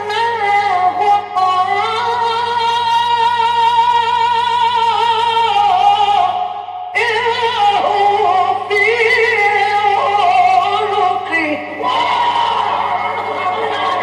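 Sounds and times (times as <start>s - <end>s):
low recording hum: 0.0s - 14.0s.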